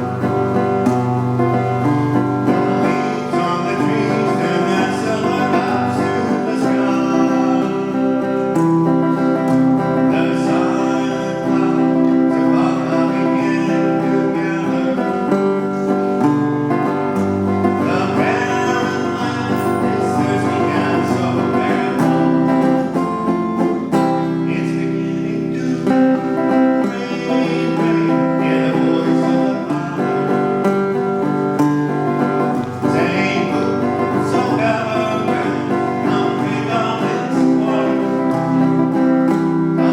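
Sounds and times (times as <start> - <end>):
guitar-led music: 0.0 - 39.9
person singing: 0.0 - 39.9.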